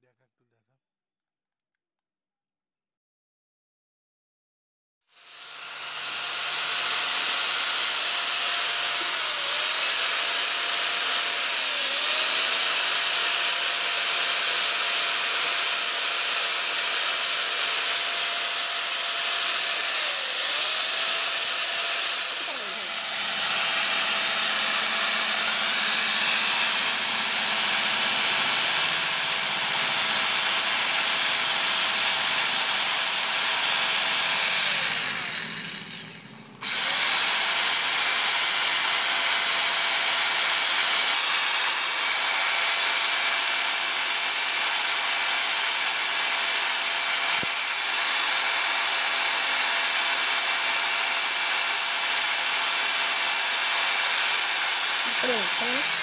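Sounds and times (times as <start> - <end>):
electric drill whining: 5.1 - 56.0.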